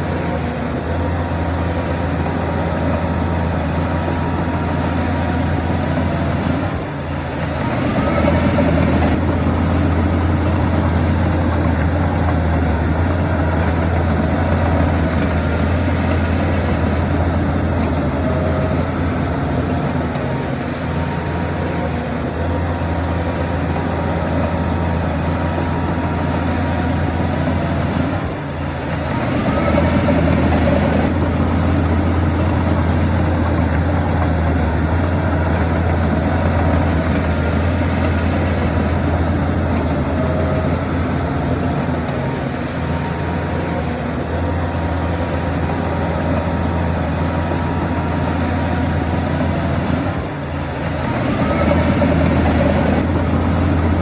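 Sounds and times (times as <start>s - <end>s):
diesel earthmoving machinery droning: 0.0s - 54.0s.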